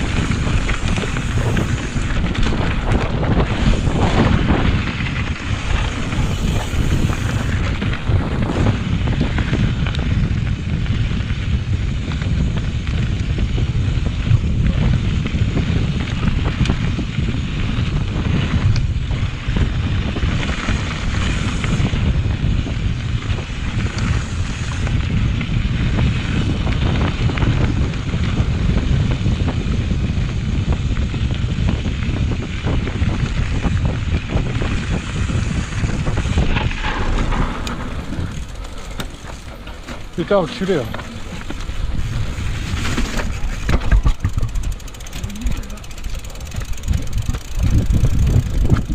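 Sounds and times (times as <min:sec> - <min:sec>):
bike rumbling over dirt trail: 0:00.0 - 0:48.9
wind buffeting microphone: 0:00.0 - 0:48.9.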